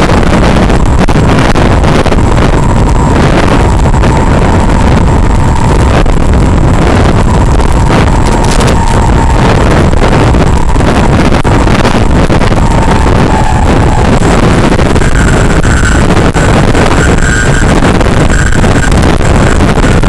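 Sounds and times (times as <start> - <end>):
electric motor whining: 0.0 - 20.0
wind buffeting microphone: 0.0 - 20.0.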